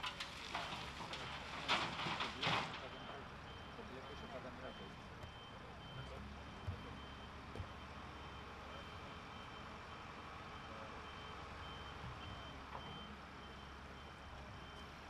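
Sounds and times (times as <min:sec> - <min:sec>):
reversing alarm beeping: 0:02.8 - 0:15.0.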